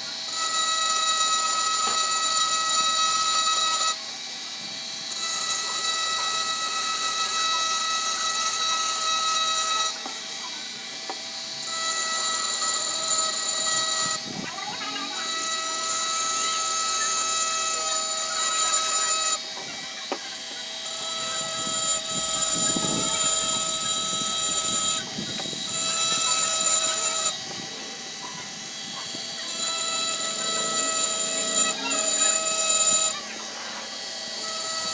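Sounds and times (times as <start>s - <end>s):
bit grinding glass: 0.0s - 4.0s, 5.0s - 34.9s
rotary tool high whine: 0.0s - 34.9s.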